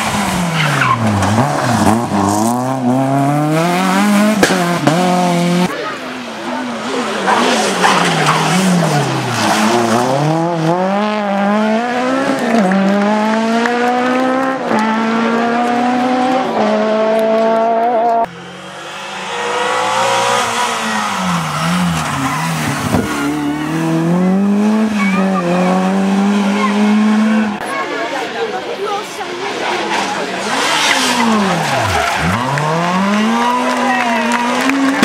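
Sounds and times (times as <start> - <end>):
rally car engines revving: 0.0 - 35.0.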